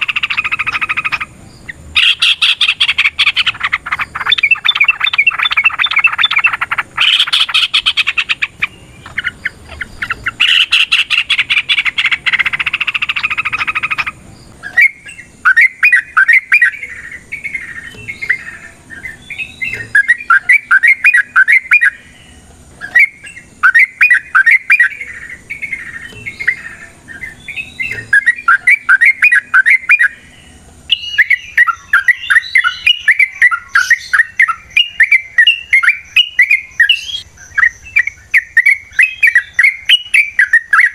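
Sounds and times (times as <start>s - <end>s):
bird singing chattering rattle: 0.0s - 40.9s.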